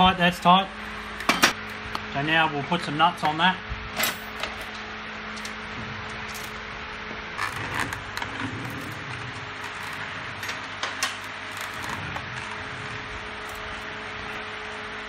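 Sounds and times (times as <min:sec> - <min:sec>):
steady workshop hum: 0:00.0 - 0:15.0.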